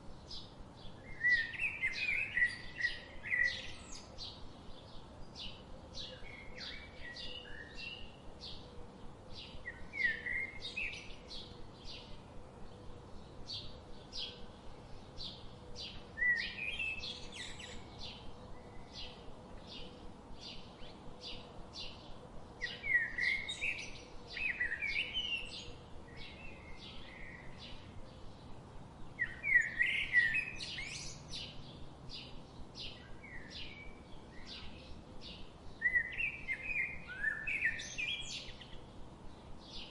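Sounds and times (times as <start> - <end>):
faint steady hiss: 0.0 - 39.9
bird warbling song: 0.2 - 8.6, 9.3 - 28.5, 29.1 - 39.9
birds chirping: 0.3 - 39.9.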